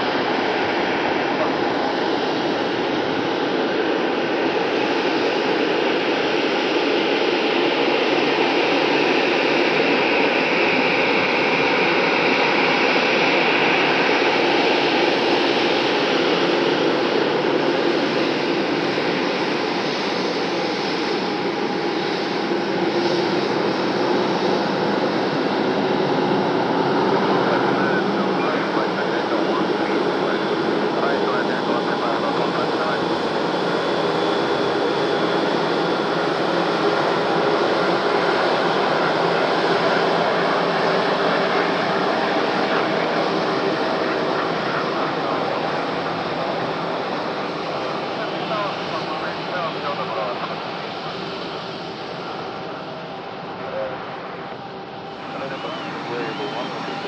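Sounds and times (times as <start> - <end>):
jet engines at taxi power: 0.0 - 57.0.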